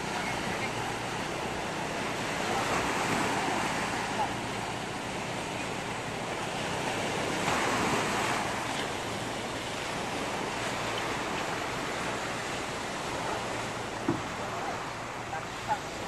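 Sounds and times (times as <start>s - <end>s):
small waves breaking on beach: 0.0s - 16.0s.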